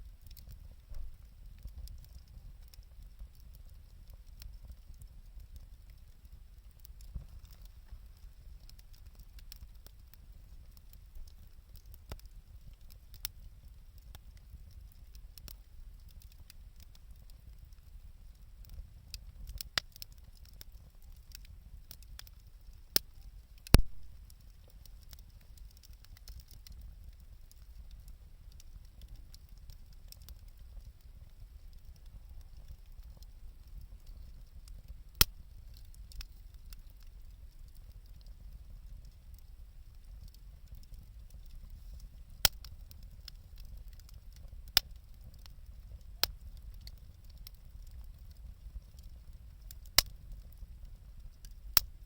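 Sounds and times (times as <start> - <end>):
campfire crackling: 0.0 - 52.0
fire popping: 0.0 - 52.0.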